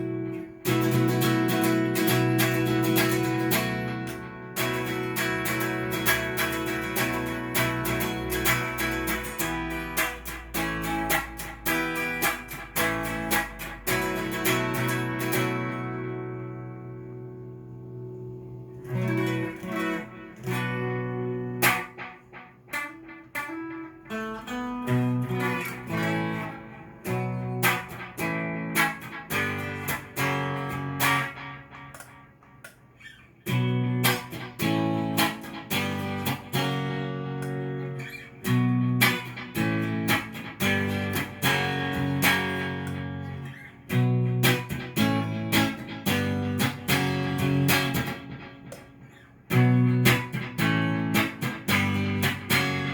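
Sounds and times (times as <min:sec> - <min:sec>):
clean electric guitar chords: 0:00.0 - 0:52.9.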